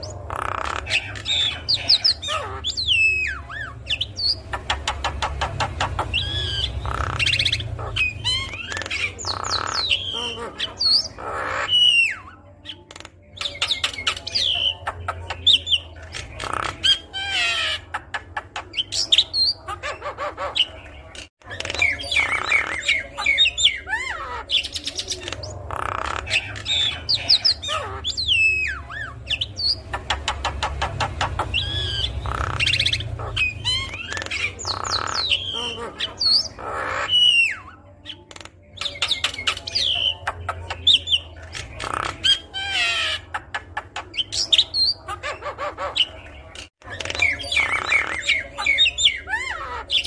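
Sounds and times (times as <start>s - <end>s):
bird singing varied song: 0.0s - 50.0s.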